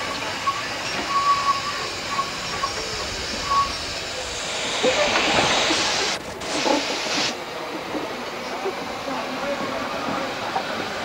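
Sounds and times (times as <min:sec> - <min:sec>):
steam hissing: 0:00.0 - 0:11.0
steam locomotive moving slowly: 0:00.0 - 0:11.0.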